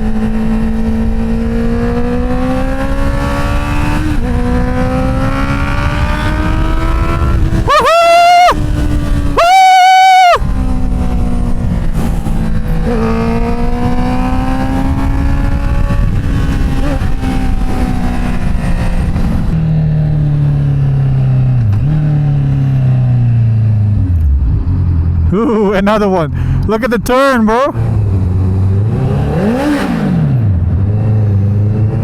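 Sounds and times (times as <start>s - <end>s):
engine revving: 0.0s - 19.6s, 21.5s - 32.0s.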